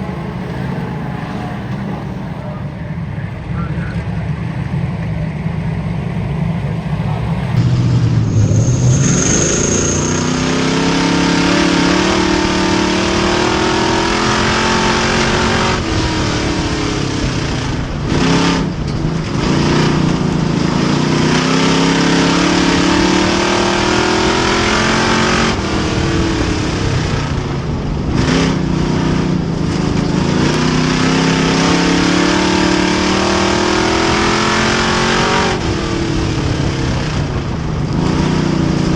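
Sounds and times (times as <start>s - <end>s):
race car engine at full throttle: 0.0s - 38.9s.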